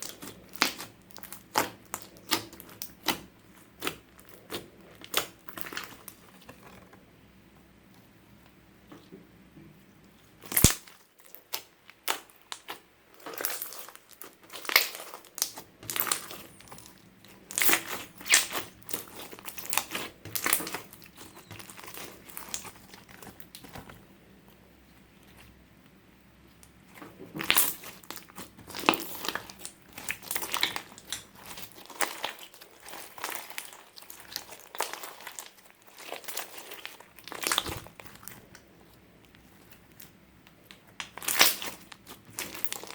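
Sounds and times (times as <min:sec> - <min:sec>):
slime crackling and popping: 0:00.0 - 0:06.8, 0:10.4 - 0:23.8, 0:27.0 - 0:38.6, 0:39.2 - 0:42.9.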